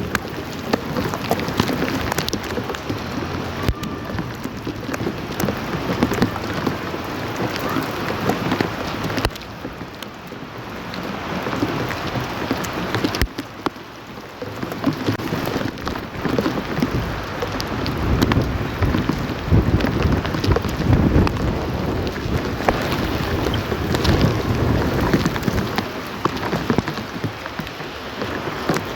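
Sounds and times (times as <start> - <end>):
heavy rain pattering: 0.0 - 28.9.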